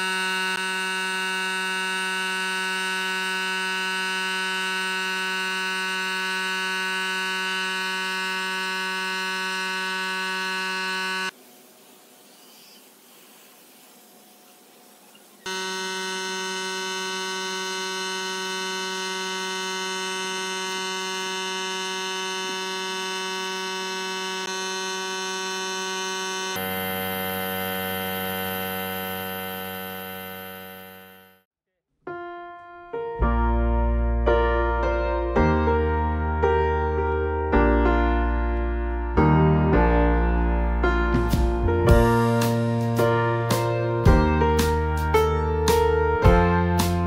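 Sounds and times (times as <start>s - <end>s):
electric buzzing hum: 0.0s - 31.5s, 40.0s - 47.0s.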